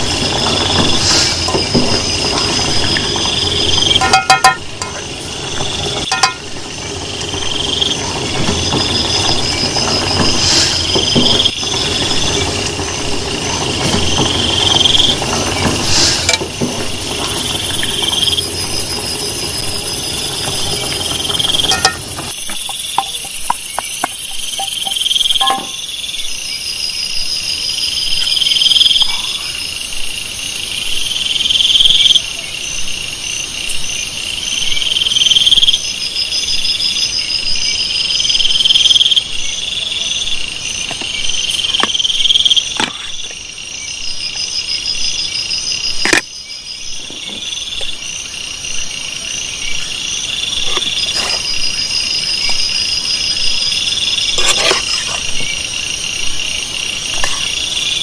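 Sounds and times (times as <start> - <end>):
fast pulsing insect trill: 0.0 - 42.8, 43.4 - 58.0
insects trilling: 0.0 - 58.0.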